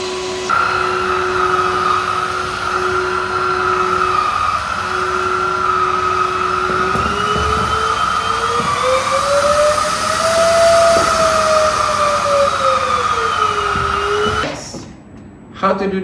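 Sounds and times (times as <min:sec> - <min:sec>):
handheld vacuum cleaner whine: 0:00.0 - 0:15.0.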